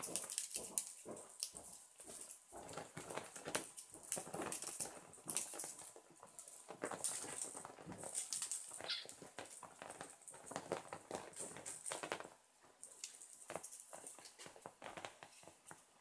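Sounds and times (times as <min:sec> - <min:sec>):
kittens' claws scratching towel: 0:00.0 - 0:16.0.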